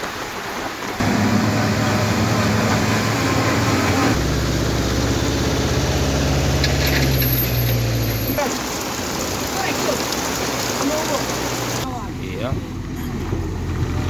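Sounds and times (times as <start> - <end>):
heavy truck engine droning: 1.0 - 14.0.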